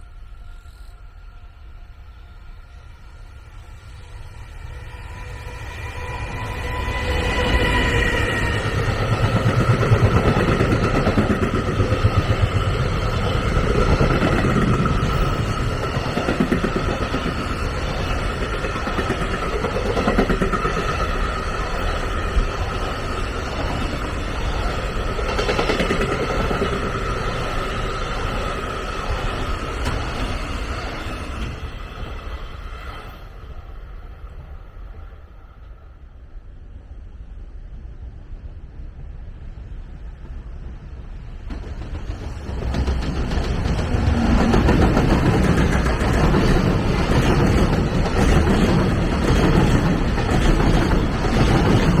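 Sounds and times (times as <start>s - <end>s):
train rumbling past: 0.0s - 52.0s.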